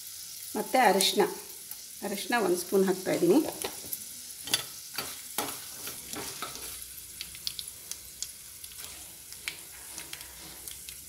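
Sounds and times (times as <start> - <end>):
hot oil sizzling with crackles: 0.0 - 11.0.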